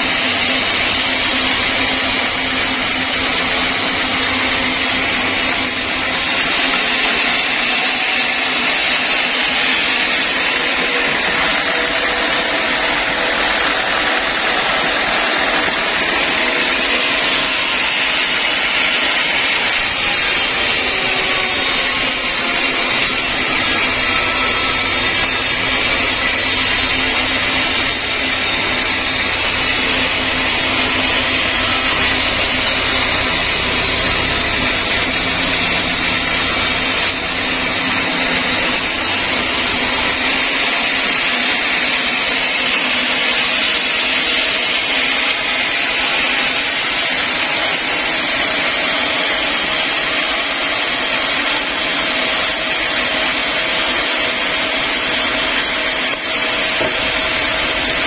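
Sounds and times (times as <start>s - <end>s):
band saw whining through log: 0.0s - 58.0s.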